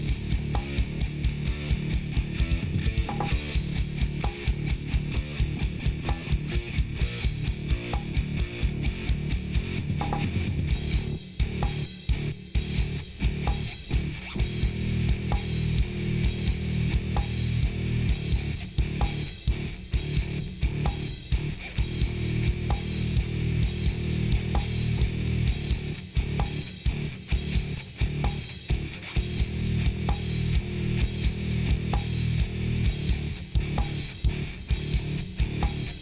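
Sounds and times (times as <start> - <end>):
rock music with electric guitar: 0.0 - 36.0.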